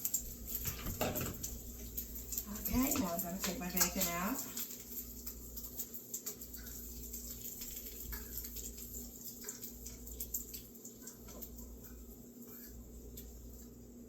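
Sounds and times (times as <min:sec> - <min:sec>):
grease crackles and pops: 0:00.0 - 0:13.9
bacon sizzling in a pan: 0:00.0 - 0:14.0.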